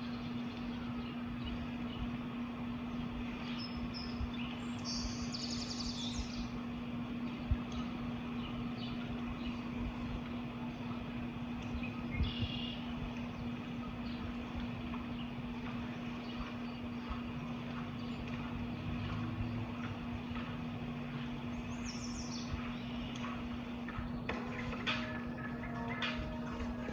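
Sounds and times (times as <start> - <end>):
birds chirping: 0.0 - 26.9
constant hum: 0.0 - 26.9.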